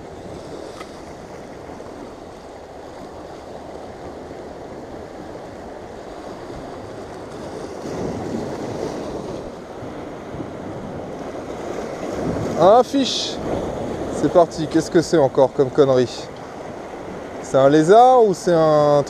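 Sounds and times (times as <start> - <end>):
waves washing against rocks: 0.0 - 19.0.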